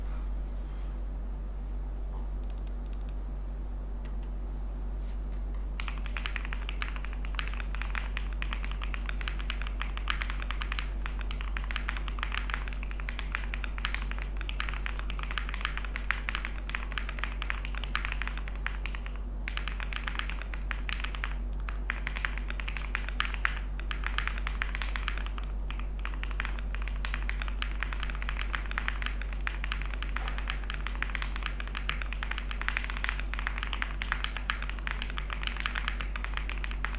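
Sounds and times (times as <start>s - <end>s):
steady low hum: 0.0s - 36.9s
mechanical keyboard typing: 2.4s - 3.2s, 5.8s - 36.9s.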